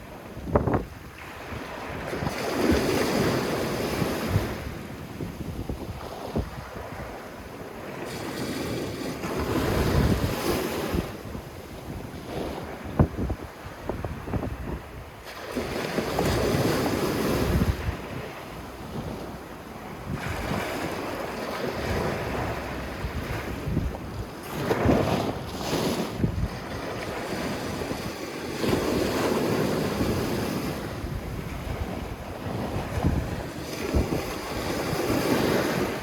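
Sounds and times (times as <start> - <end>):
sea waves washing on beach: 0.0 - 36.0
wind buffeting microphone: 0.0 - 36.0.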